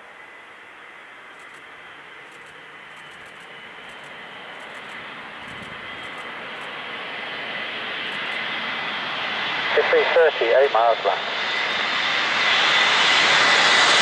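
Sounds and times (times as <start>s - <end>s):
aircraft engines droning: 0.0s - 14.0s.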